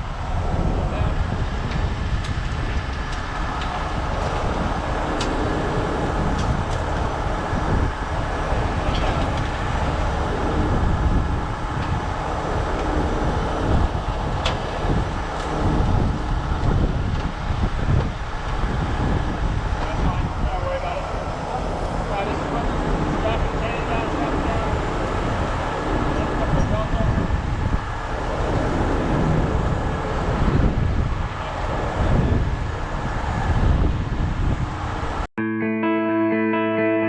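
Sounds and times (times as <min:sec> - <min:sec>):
heavy diesel vehicles rumbling: 0:00.0 - 0:35.3.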